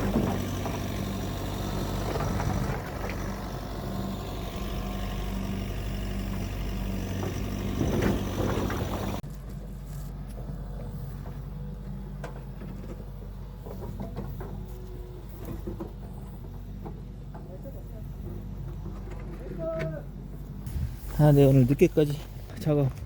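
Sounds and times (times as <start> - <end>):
engine idling with low hum: 0.0 - 23.0.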